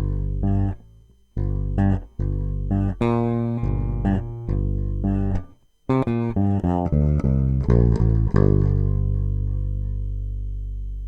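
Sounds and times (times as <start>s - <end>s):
plucked string music: 1.4s - 10.4s.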